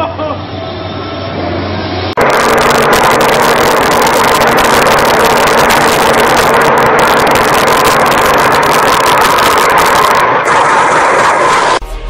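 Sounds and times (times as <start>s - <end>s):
tractor diesel engine under load: 1.3s - 11.9s.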